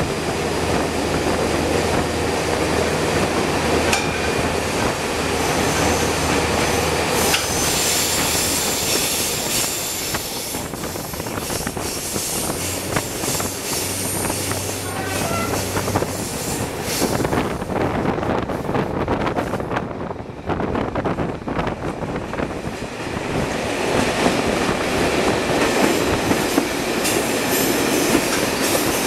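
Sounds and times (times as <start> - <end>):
wheels clattering on rail: 0.0 - 19.8, 20.7 - 29.0
railcar engine hum: 0.0 - 29.0.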